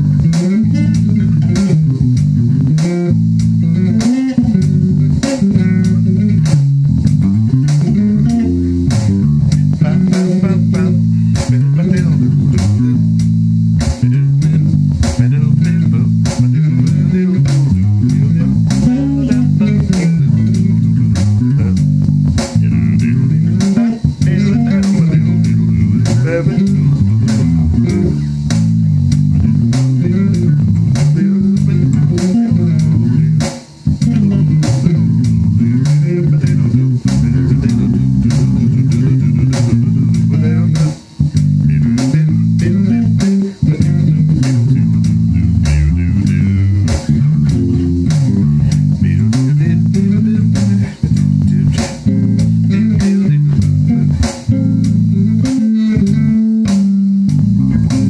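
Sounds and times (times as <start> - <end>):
electric bass played fingerstyle: 0.0 - 58.0
steady drum beat: 0.0 - 58.0.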